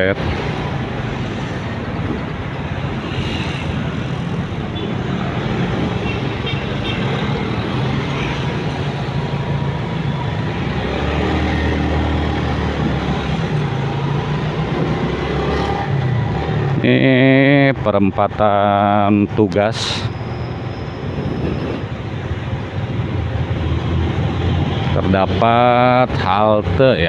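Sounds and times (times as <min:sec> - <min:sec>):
road and wind noise: 0:00.0 - 0:27.0
vehicles passing: 0:00.0 - 0:27.0.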